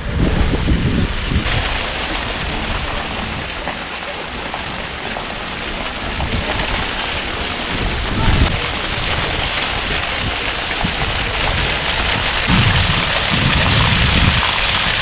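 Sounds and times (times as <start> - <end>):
waterfall rushing: 0.0 - 15.0
wind buffeting microphone: 0.0 - 15.0.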